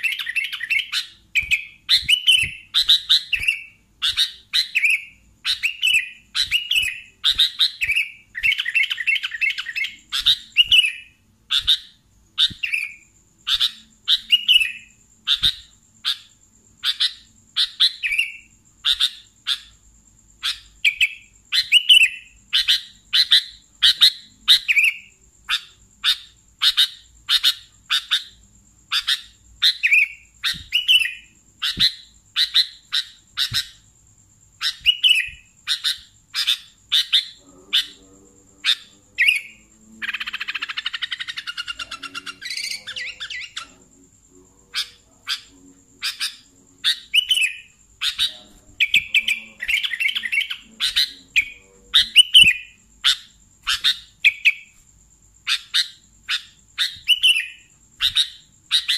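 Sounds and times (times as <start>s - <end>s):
bulbul singing bright chirps: 0.0s - 58.9s.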